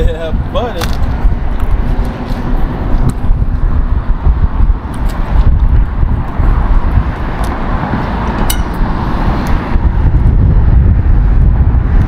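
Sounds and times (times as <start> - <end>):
wind buffeting microphone: 0.0 - 12.0
rushing noise: 1.1 - 12.0.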